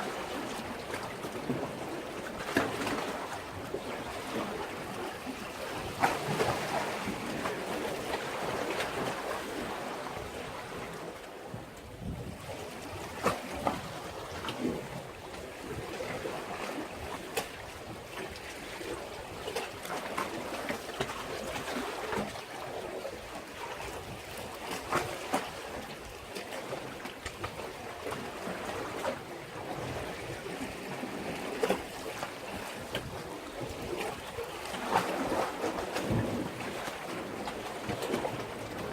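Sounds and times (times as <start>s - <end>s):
water slapping and splashing: 0.0s - 11.3s, 12.0s - 38.9s
sea waves washing against breakwater: 0.0s - 38.9s.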